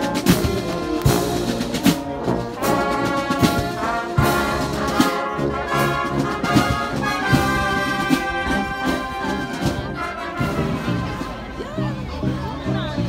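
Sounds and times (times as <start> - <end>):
steady drum beat: 0.0 - 12.0
brass band melody: 0.0 - 13.0.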